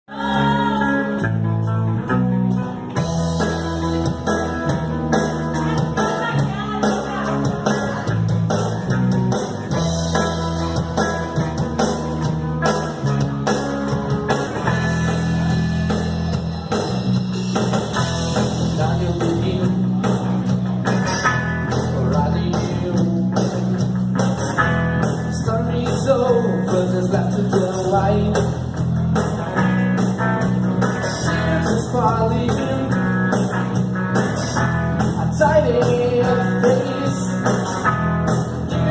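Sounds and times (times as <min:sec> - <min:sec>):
bass line: 0:00.0 - 0:38.9
electric guitar: 0:00.0 - 0:38.9
drum kit beat: 0:00.1 - 0:38.9.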